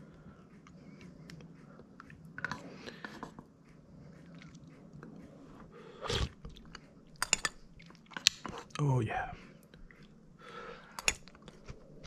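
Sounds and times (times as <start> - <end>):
person chewing soup: 0.4 - 12.0.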